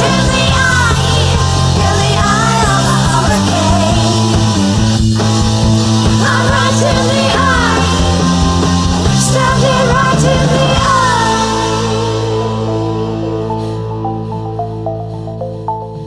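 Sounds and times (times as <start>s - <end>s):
electronic rock music: 0.0s - 16.0s.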